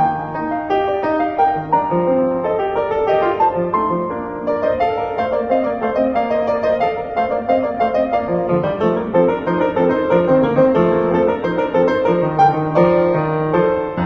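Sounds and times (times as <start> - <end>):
piano music over steady beat: 0.0 - 14.0.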